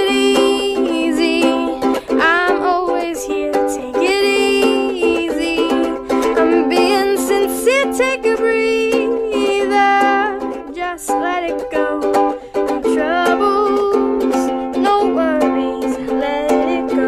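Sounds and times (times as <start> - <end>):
person singing wordless lines: 0.0 - 17.0
ukulele playing: 0.0 - 17.0.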